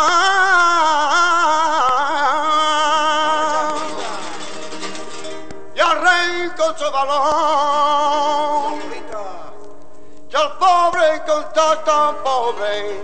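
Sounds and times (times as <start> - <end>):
man singing flamenco: 0.0 - 13.0.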